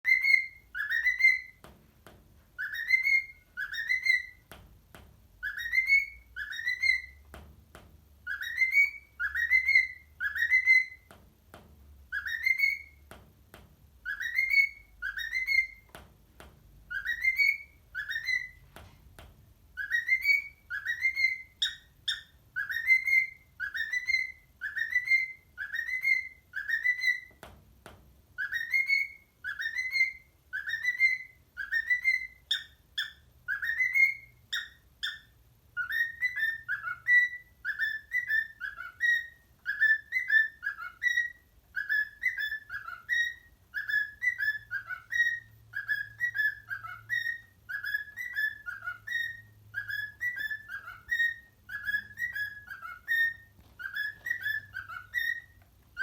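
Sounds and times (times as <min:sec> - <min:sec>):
cockatiel whistling a tune: 0:00.0 - 0:01.7, 0:02.4 - 0:04.7, 0:05.4 - 0:07.3, 0:08.2 - 0:11.2, 0:12.0 - 0:13.2, 0:14.0 - 0:16.0, 0:16.8 - 0:18.8, 0:19.7 - 0:27.5, 0:28.3 - 0:56.0.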